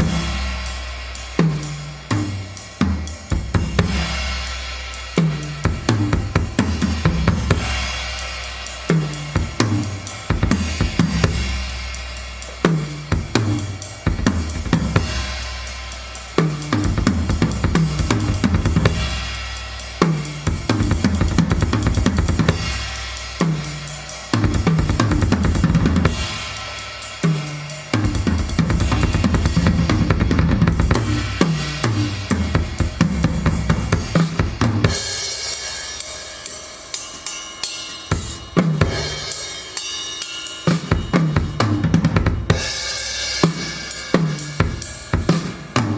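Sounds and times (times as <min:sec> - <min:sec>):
drum kit playing a groove: 0:00.0 - 0:45.9.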